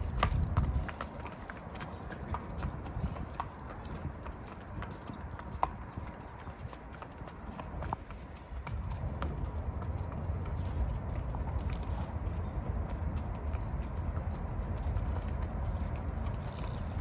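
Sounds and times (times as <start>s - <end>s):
hooves clopping on wet asphalt: 0.0s - 17.0s.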